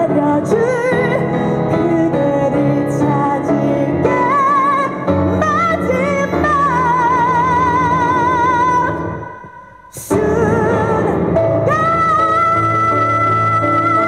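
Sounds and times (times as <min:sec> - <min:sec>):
piano accompaniment: 0:00.0 - 0:14.0
woman singing into microphone: 0:00.0 - 0:14.0.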